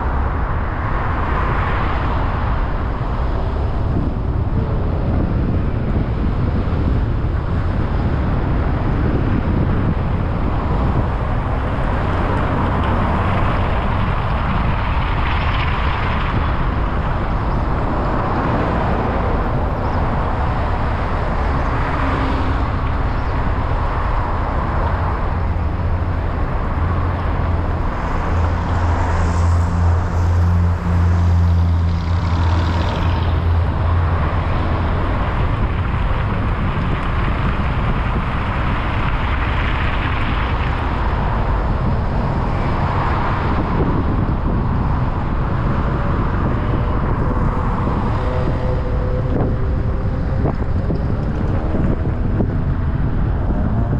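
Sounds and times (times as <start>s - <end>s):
cars and trucks passing: 0.0s - 53.9s
deep engine drone: 0.0s - 53.9s.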